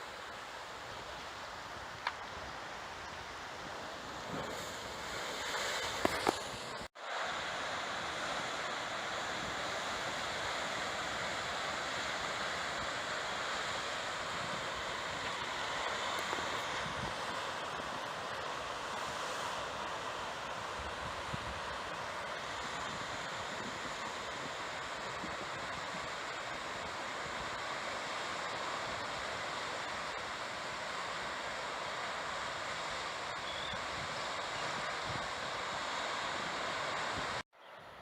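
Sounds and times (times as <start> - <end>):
wind: 0.0 - 38.0.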